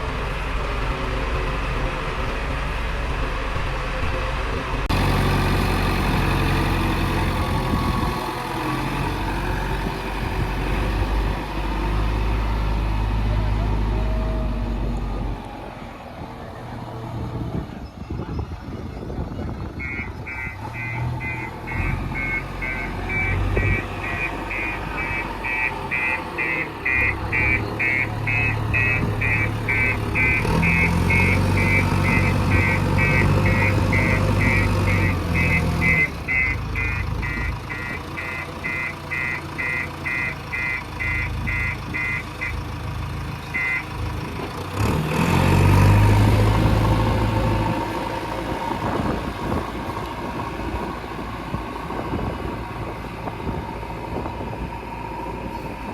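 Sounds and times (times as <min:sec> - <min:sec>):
diesel engine working: 0:00.0 - 0:55.9.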